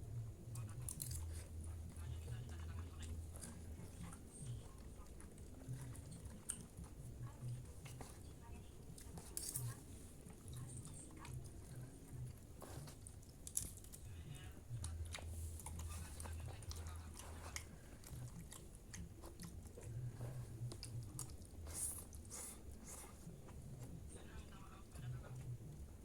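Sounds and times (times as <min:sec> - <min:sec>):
people chewing and eating: 0:00.0 - 0:26.0.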